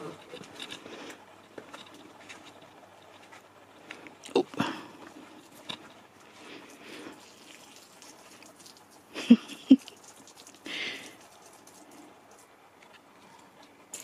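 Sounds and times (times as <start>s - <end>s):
rustling of garden plants: 0.0s - 14.0s.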